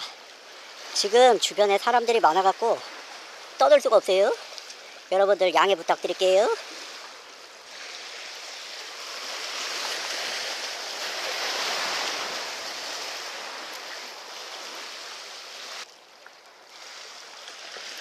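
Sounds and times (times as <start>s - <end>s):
sea waves washing: 0.0s - 18.0s.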